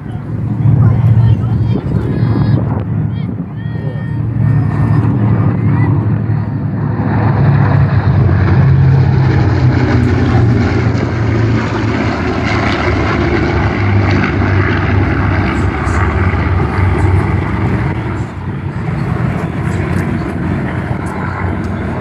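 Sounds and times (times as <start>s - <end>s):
propeller aircraft droning: 0.0s - 22.0s.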